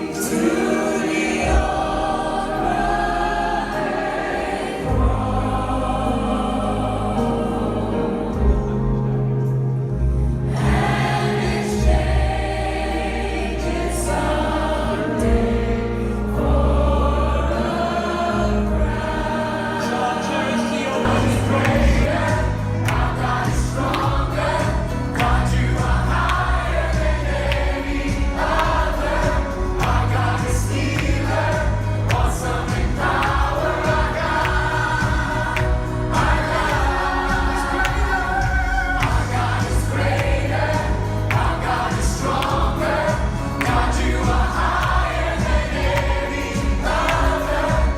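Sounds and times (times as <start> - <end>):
choir singing gospel song: 0.0 - 47.9.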